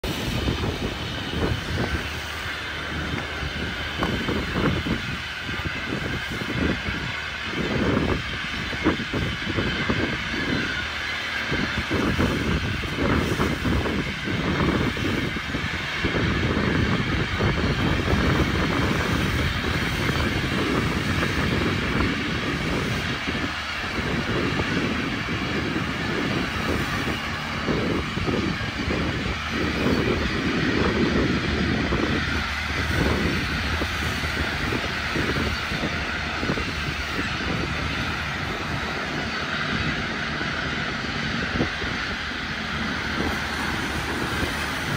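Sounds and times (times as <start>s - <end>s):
boat engine low rumble: 0.0s - 44.9s
wind gusting on microphone: 0.0s - 44.9s.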